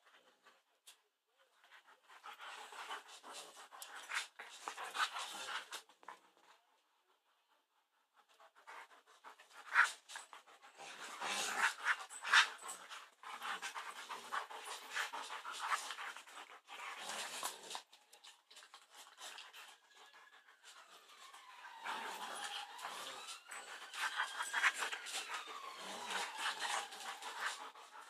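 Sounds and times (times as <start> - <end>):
dogs panting: 1.7 - 28.0.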